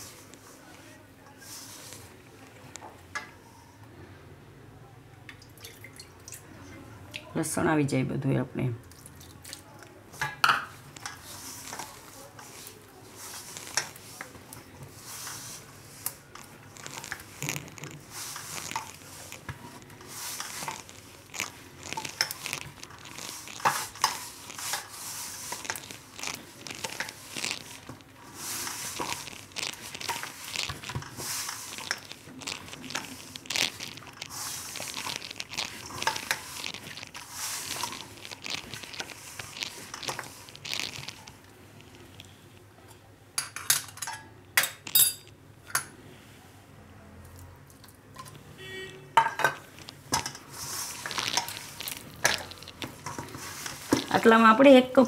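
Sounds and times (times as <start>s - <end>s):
hands mixing dough: 0.0s - 3.6s, 5.4s - 42.9s, 47.4s - 55.0s.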